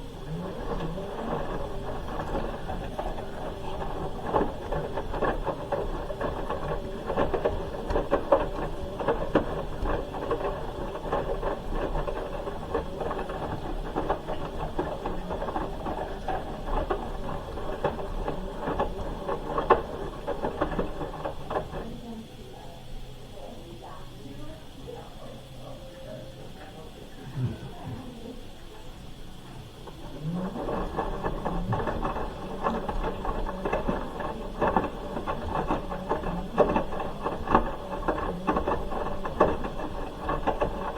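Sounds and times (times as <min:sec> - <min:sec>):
clicks and knocks of tumbling load: 0:00.0 - 0:22.1, 0:29.6 - 0:40.9
washing machine drum whirring: 0:00.0 - 0:40.9.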